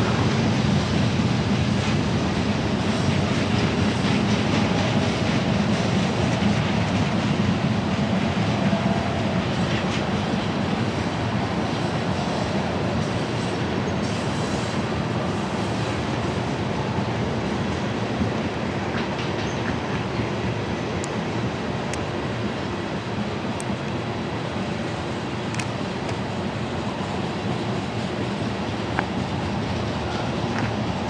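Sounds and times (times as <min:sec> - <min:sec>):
steel wheels on rails: 0:00.0 - 0:31.0.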